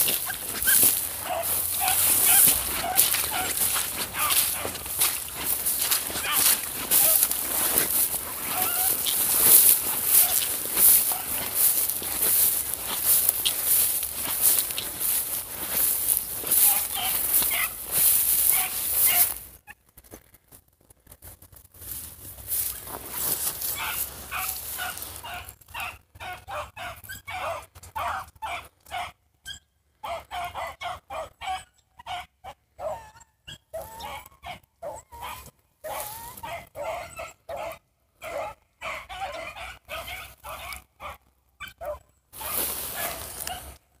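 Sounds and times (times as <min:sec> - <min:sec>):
hounds barking and baying: 0:00.0 - 0:19.6, 0:22.5 - 0:43.8.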